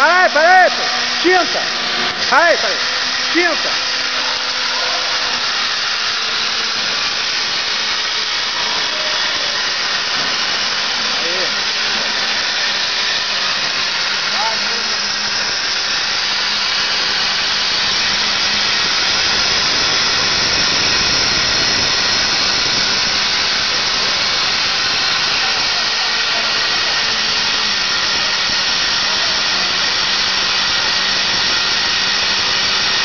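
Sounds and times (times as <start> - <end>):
paint sprayer hissing: 0.0 - 33.0.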